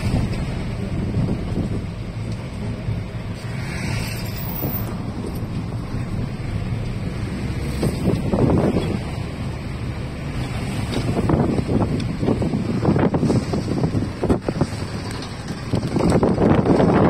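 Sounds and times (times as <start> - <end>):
car engine at low speed: 0.0 - 17.0
road noise: 0.0 - 17.0
wind rumbling on microphone: 0.0 - 17.0.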